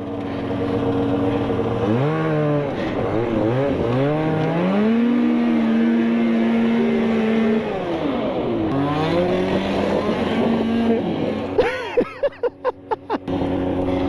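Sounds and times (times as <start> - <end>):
snowmobile engine revving: 0.0 - 14.0.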